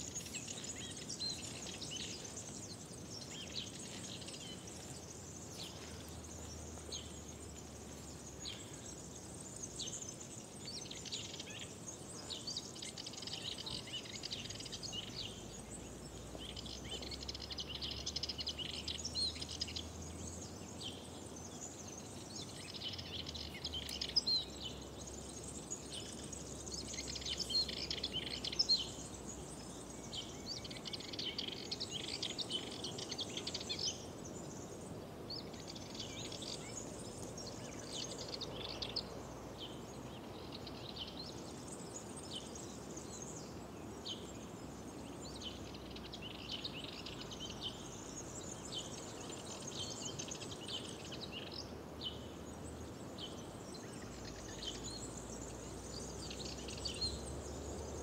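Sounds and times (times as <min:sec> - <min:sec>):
faint background hiss: 0:00.0 - 0:58.0
songbirds singing and chirping: 0:00.0 - 0:58.0.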